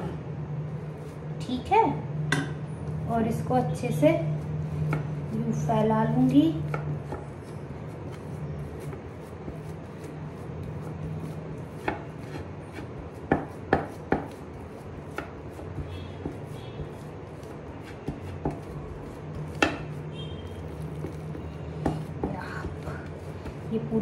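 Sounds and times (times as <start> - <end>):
steady low hum: 0.0 - 24.0
hands patting dough: 4.3 - 24.0.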